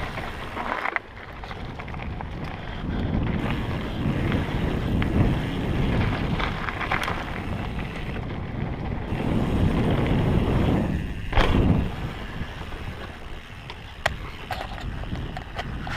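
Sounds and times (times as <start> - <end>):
tyres rolling over gravel: 0.0 - 15.9
wind rushing over microphone: 0.0 - 15.9.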